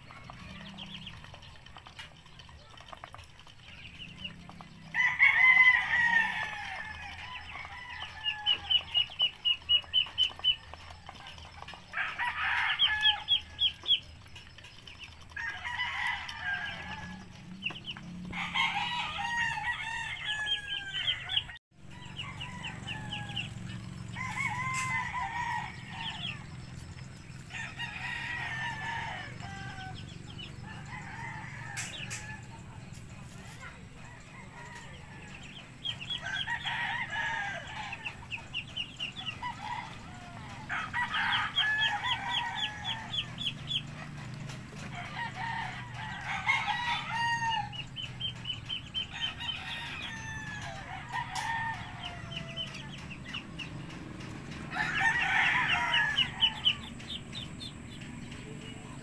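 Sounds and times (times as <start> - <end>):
chickens clucking: 0.0 - 59.0
crowing-like calls: 4.1 - 14.5, 15.2 - 59.0.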